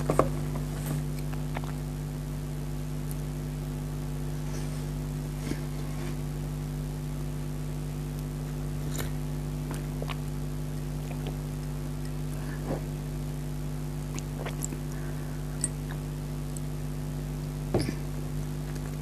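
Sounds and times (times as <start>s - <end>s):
low hum with faint hiss: 0.0s - 19.0s.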